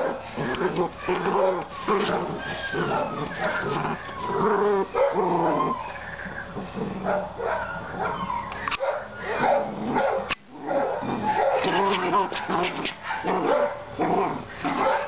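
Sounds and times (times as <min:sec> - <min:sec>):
puppy yipping and whining: 0:01.0 - 0:13.8.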